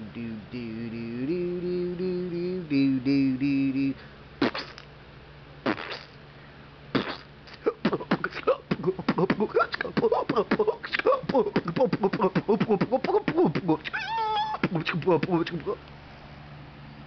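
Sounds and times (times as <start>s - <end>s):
man making vocal mouth noises: 0.0s - 4.9s, 5.6s - 6.2s, 6.9s - 15.8s.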